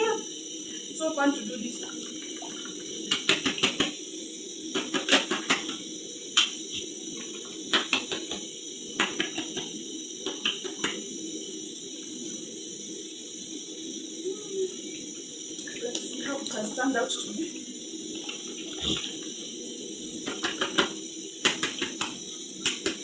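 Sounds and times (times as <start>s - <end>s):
background hum: 0.0s - 23.0s.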